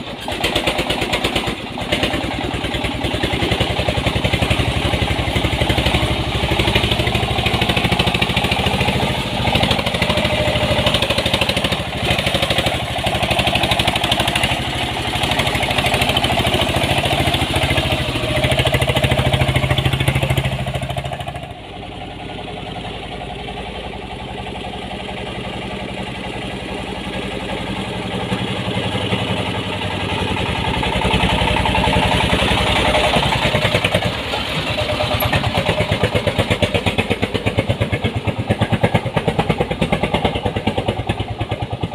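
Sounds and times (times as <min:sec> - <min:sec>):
diesel engine knocking: 0:00.0 - 0:41.9.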